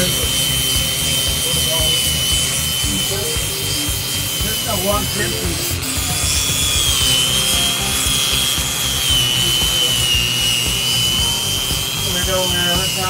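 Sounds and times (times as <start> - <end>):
background music: 0.0 - 13.0
grinder motor whining: 0.0 - 13.0.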